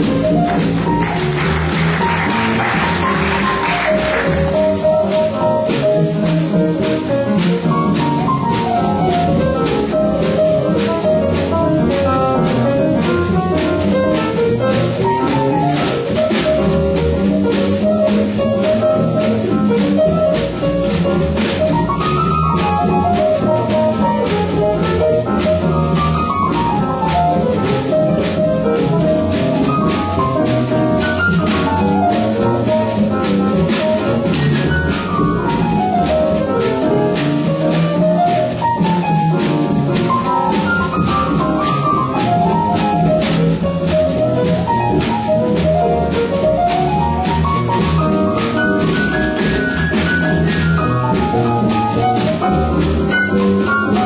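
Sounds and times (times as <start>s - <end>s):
double bass: 0.0s - 54.0s
drums swing beat: 0.0s - 54.0s
piano: 0.0s - 54.0s.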